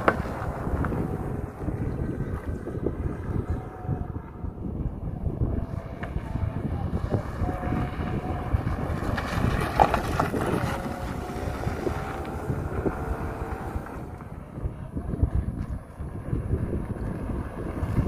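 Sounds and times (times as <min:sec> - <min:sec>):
low steady rumble: 0:00.0 - 0:18.0
wind buffeting microphone: 0:00.0 - 0:18.0.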